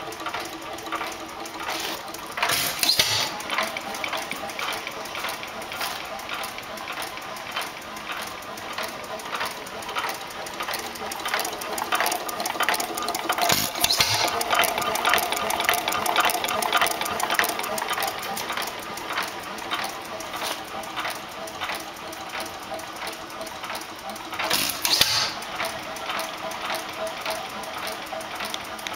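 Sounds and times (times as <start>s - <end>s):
hit-and-miss engine running: 0.0s - 28.9s.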